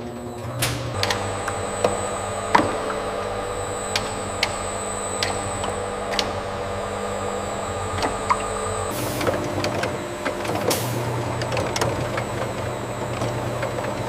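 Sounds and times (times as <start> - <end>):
machinery drone and whine: 0.0 - 14.0.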